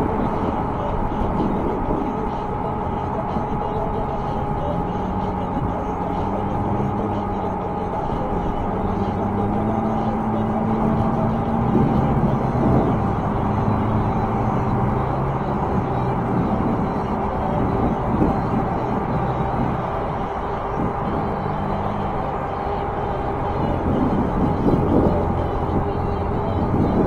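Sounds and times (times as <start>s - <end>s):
wind noise: 0.0s - 4.8s, 5.4s - 27.0s
highway traffic rumble: 0.0s - 27.0s
passing vehicle engines: 0.0s - 27.0s.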